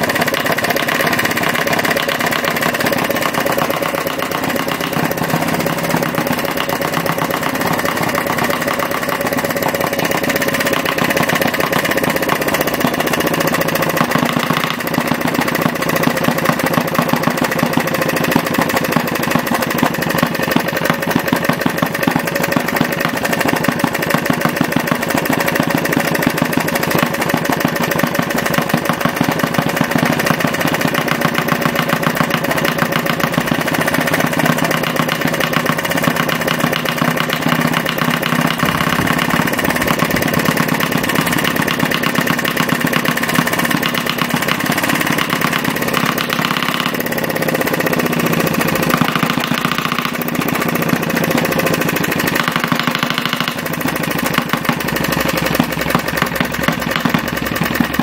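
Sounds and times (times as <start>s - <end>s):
model diesel engine running: 0.0s - 58.0s.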